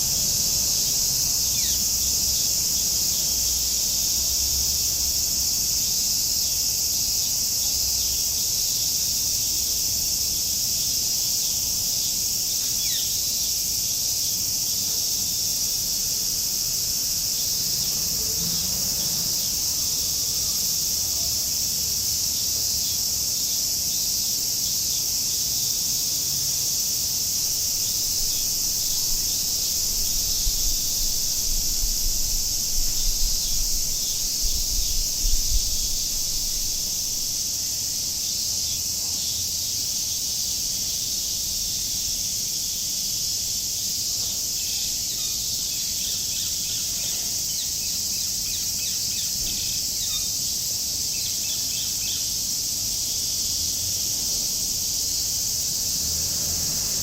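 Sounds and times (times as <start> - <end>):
cicadas singing: 0.0 - 57.0.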